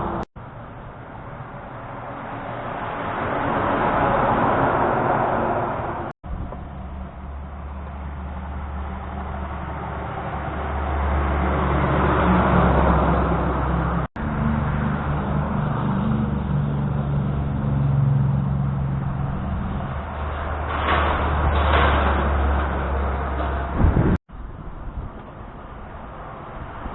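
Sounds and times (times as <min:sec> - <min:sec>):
heavy trucks driving past: 0:00.0 - 0:26.9.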